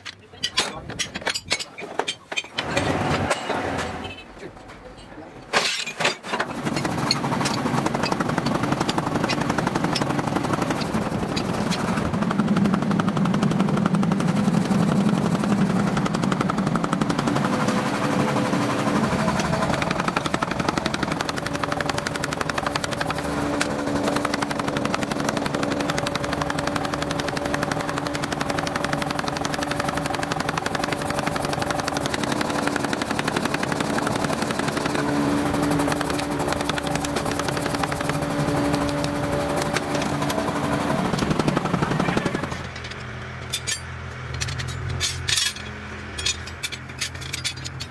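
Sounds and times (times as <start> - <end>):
machine rattling: 5.6 - 12.6, 13.3 - 47.9.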